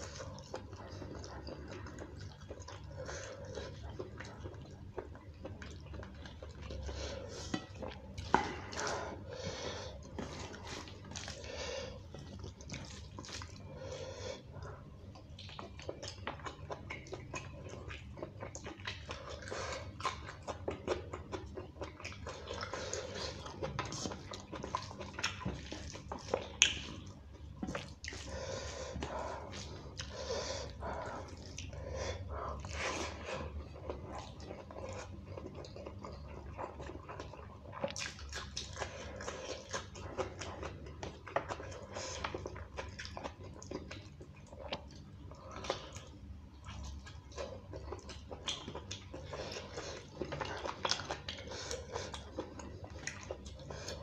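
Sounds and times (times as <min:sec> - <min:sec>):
wet chewing and lip smacking: 0:00.0 - 0:54.0.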